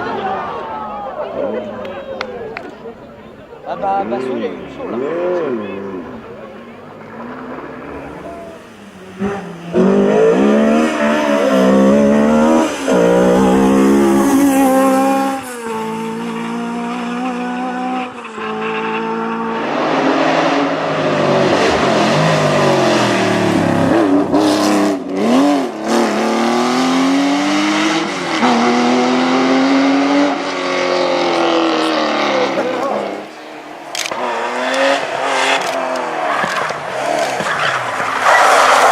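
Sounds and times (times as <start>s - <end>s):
rally car engines at full throttle: 0.0s - 38.9s.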